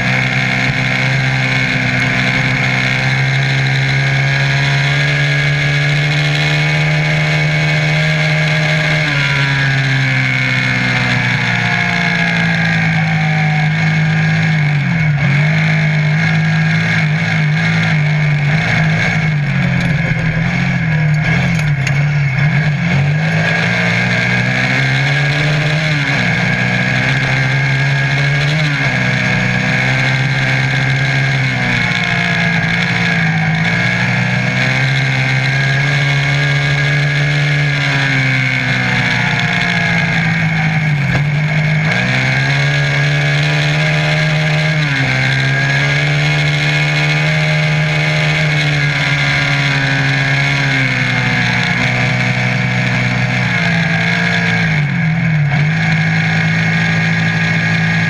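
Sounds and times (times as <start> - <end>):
buggy engine running hard: 0.0 - 58.0.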